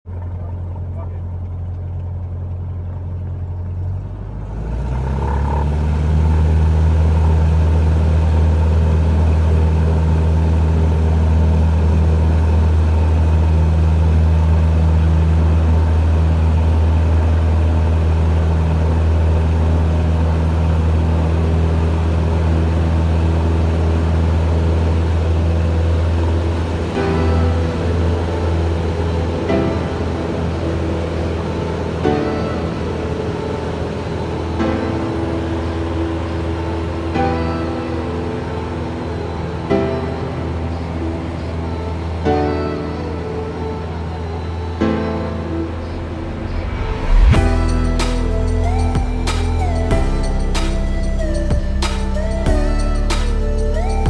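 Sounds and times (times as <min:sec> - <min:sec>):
propeller plane engine drone: 0:00.1 - 0:54.0.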